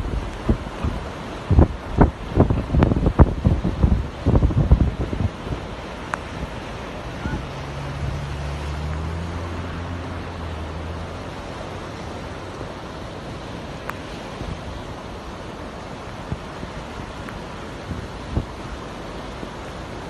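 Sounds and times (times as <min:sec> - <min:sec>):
floodwater rushing: 0:00.0 - 0:20.0
heavy rain: 0:00.0 - 0:20.0
low engine hum: 0:00.0 - 0:20.0.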